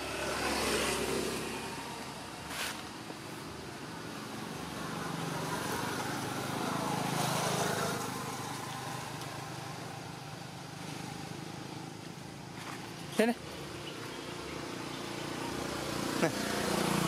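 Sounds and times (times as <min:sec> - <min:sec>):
distant vehicle passing: 0:00.0 - 0:02.5, 0:04.1 - 0:12.4, 0:13.2 - 0:17.0.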